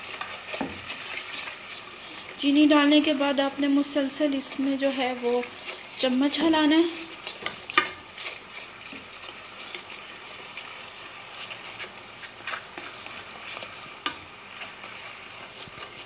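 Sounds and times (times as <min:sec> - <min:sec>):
food sizzling: 0:00.0 - 0:16.0
spoon stirring and scraping pot: 0:00.0 - 0:16.0.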